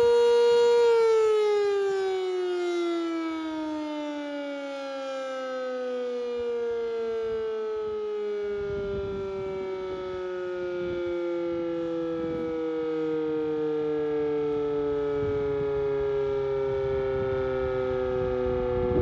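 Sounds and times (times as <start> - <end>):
warning siren winding down: 0.0 - 19.0.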